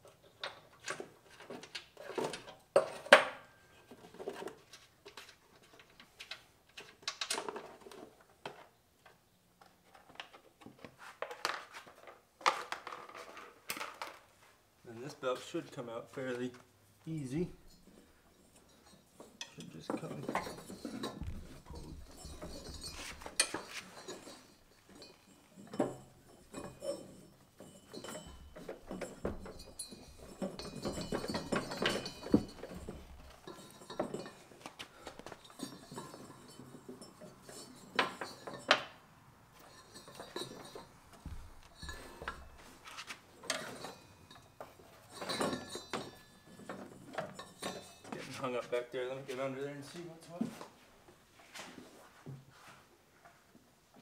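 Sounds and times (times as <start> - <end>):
metallic clinks and knocks: 0.0 - 10.8, 15.2 - 48.7.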